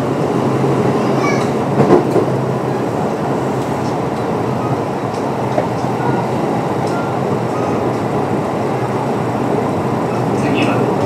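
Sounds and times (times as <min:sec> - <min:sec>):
train wheels rolling noise: 0:00.0 - 0:11.0.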